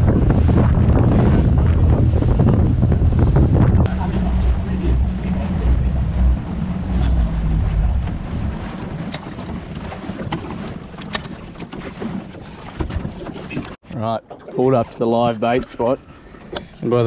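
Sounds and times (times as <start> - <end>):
wind buffeting microphone: 0.0 - 13.7
outboard motor drone: 0.0 - 17.0
water rushing past hull: 0.0 - 17.0.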